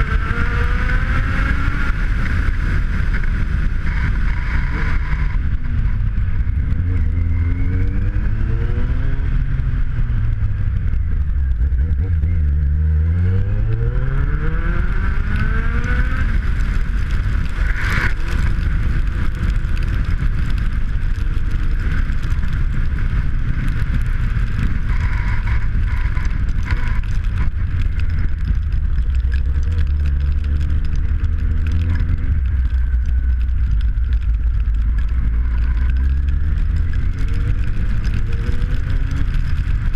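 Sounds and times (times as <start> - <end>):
motorcycle engine revving: 0.0 - 33.0, 34.8 - 39.9.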